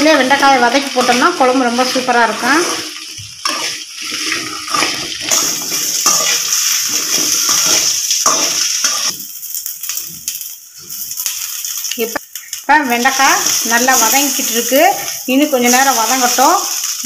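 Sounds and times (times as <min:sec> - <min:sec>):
okra sizzling in hot oil: 0:00.0 - 0:17.0
metal spoon scraping a pan: 0:00.8 - 0:17.0.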